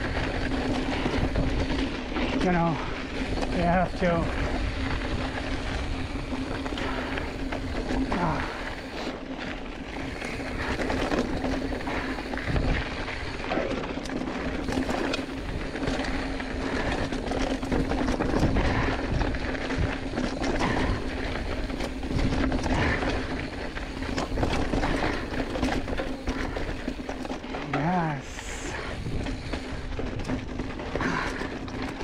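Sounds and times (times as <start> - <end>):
bike knocking and rattling: 0.0 - 32.0
tyres crunching on gravel: 0.0 - 32.0
wind buffeting microphone: 0.0 - 32.0.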